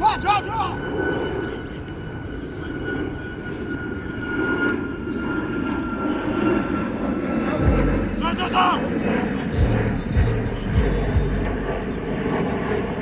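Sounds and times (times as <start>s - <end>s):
airplane engine rumble: 0.0s - 13.0s
high engine whine: 0.0s - 13.0s.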